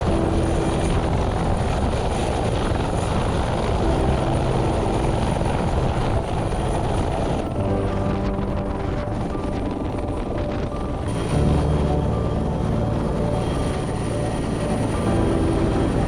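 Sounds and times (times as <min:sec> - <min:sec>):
helicopter rotor and engine: 0:00.1 - 0:16.0.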